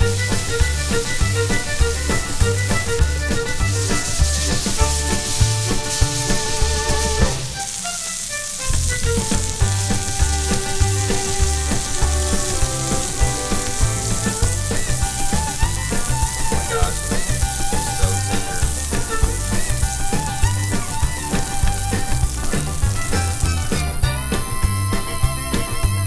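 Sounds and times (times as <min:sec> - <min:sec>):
music with pulsing bass beat: 0:00.0 - 0:07.6, 0:08.9 - 0:26.0
steak sizzling in a skillet: 0:00.0 - 0:26.0.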